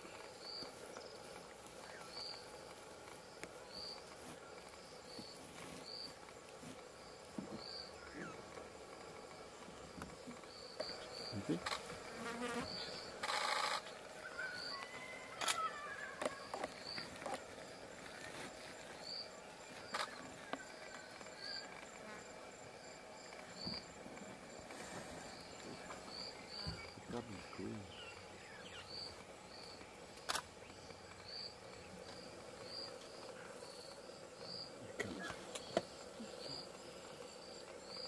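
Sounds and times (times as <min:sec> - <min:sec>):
insects buzzing and chirping: 0:00.0 - 0:38.0.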